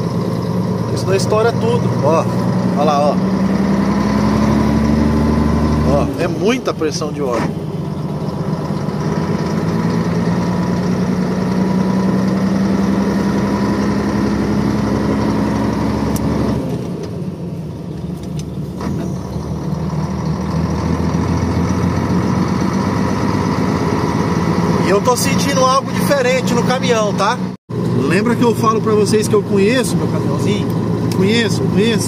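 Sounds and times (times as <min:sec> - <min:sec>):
truck diesel engine pulling away: 0:00.0 - 0:32.0.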